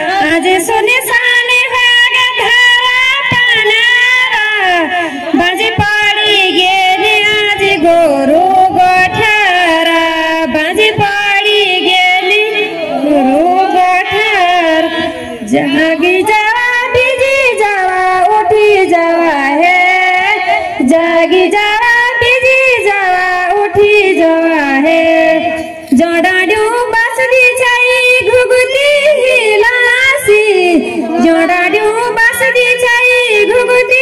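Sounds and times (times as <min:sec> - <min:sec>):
woman singing into a microphone: 0:00.0 - 0:34.0.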